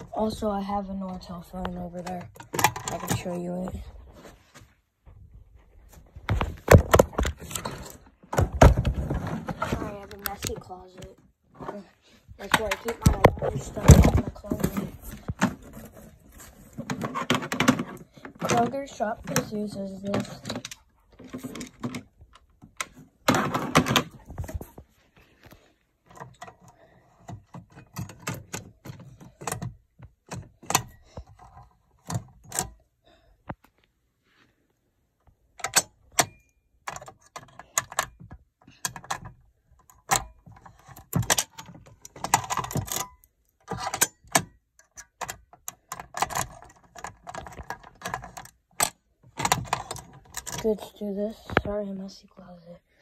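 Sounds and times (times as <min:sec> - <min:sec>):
handling knocks and rattles: 0:00.0 - 0:32.8, 0:35.3 - 0:52.2.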